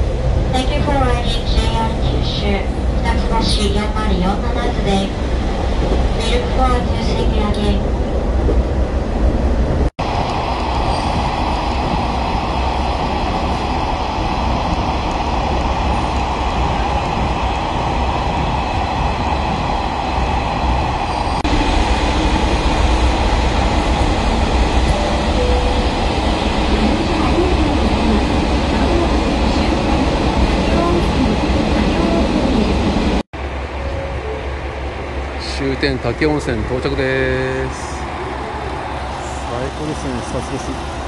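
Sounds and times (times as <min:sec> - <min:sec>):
diesel railcar rumbling on rails: 0:00.0 - 0:41.0.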